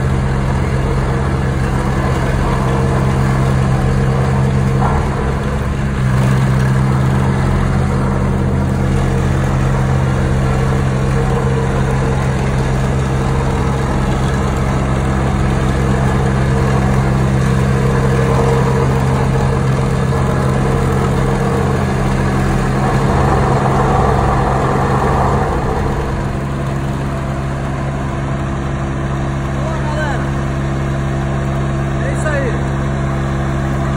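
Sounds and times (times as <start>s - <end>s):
roller driving over gravel: 0.0s - 30.5s
trench roller engine running: 0.0s - 33.9s.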